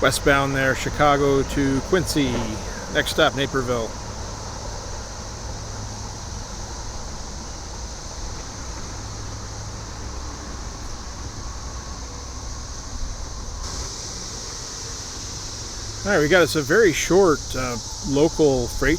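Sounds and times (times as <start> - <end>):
cicadas droning: 0.0 - 18.9.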